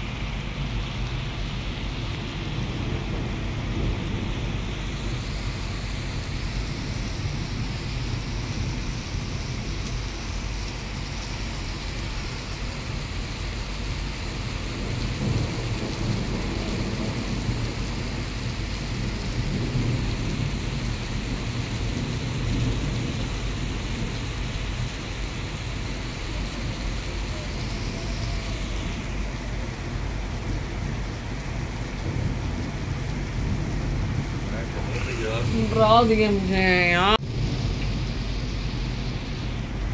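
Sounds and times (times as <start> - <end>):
constant low rumble: 0.0 - 39.9
heavy rain on wet road: 0.0 - 39.9.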